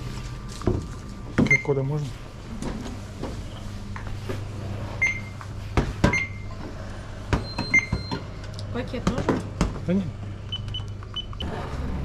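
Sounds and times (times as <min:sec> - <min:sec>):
low refrigeration hum: 0:00.0 - 0:12.0.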